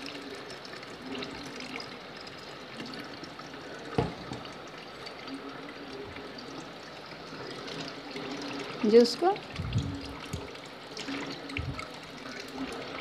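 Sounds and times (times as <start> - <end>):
juice pouring and splashing: 0.0 - 13.0.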